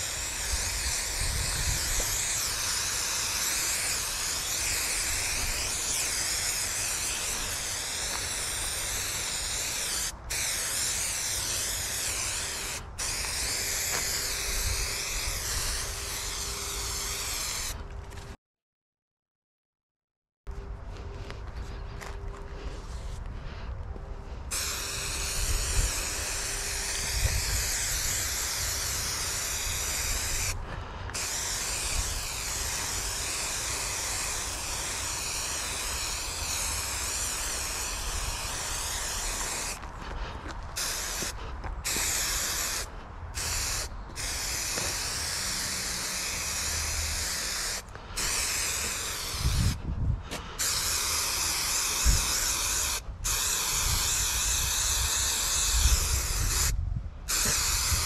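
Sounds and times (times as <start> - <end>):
spray adhesive hissing: 0.0 - 17.8, 24.5 - 39.8, 40.8 - 58.0.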